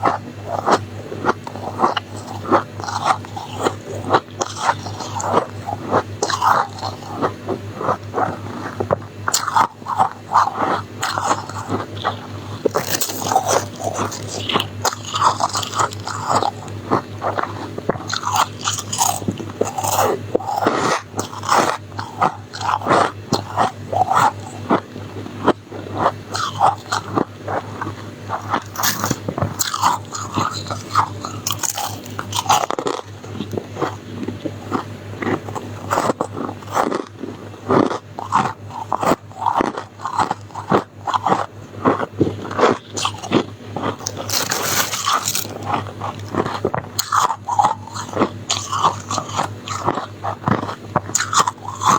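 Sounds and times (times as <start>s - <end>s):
chewing crunchy ice: 0.0s - 51.9s.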